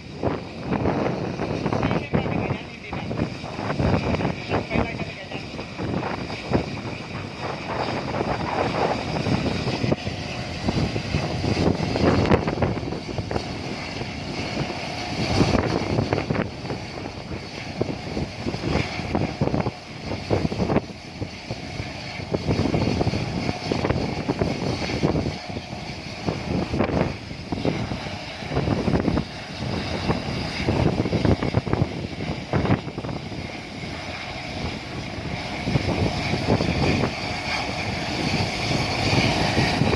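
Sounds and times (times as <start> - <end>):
helicopter engine and rotor drone: 0.0 - 39.9
wind buffeting microphone: 0.0 - 39.9.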